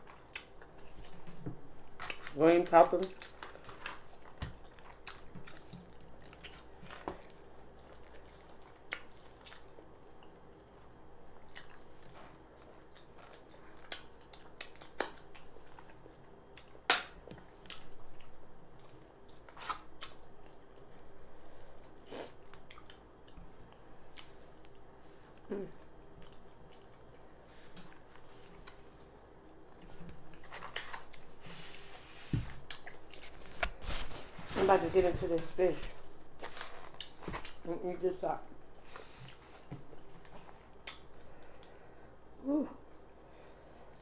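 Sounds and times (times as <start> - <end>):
person chewing soft food: 0.0 - 34.4, 36.0 - 37.7, 38.4 - 44.0.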